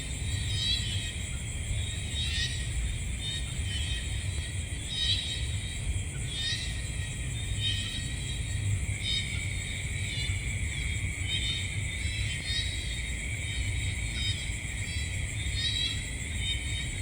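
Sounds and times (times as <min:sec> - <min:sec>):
chorus of night insects: 0:00.0 - 0:17.0.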